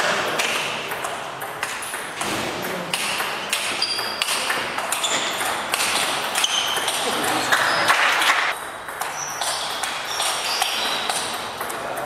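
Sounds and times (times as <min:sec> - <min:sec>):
murmur of sports hall: 0:00.0 - 0:12.0
table tennis ball clicking: 0:00.4 - 0:12.0.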